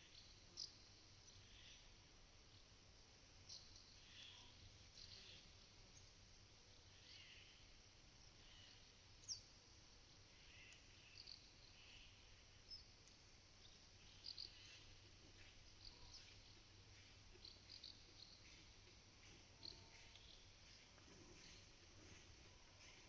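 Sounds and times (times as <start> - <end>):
small birds chirping: 0.0 - 2.7, 3.4 - 23.0.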